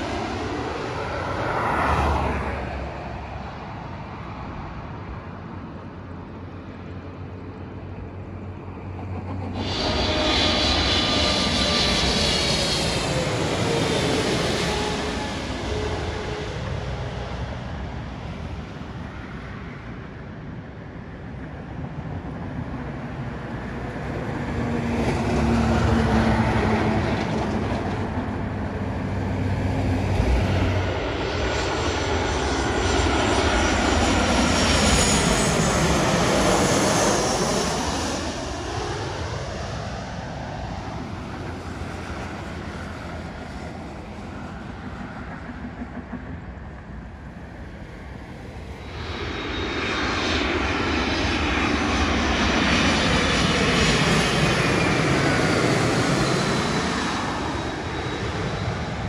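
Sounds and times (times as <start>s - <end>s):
jet airliner passing overhead: 0.0s - 59.0s.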